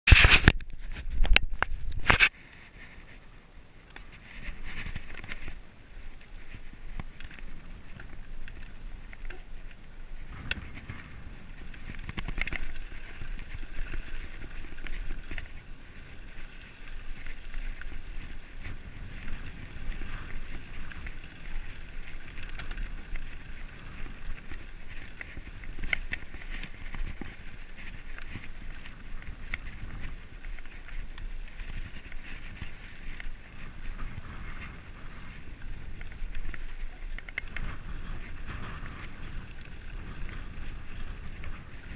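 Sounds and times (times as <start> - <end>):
bike clicks and rattles: 0.1 - 3.2, 3.8 - 41.9
wind rumble on microphone: 0.1 - 41.9.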